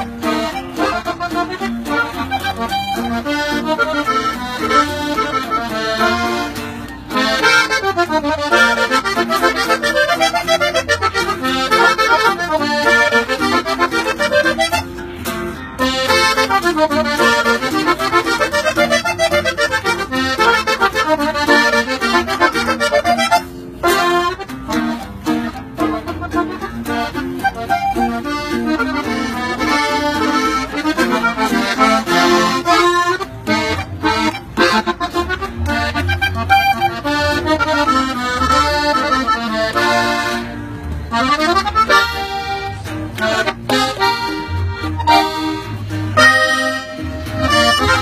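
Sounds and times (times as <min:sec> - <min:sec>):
button accordion melody: 0:00.0 - 0:48.0
guitar strumming: 0:00.0 - 0:48.0.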